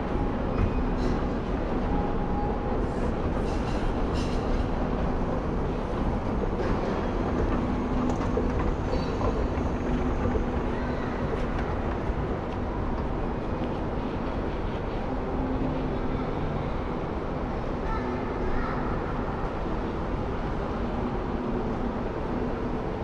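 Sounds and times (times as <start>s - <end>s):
rumbling background noise: 0.0s - 23.0s.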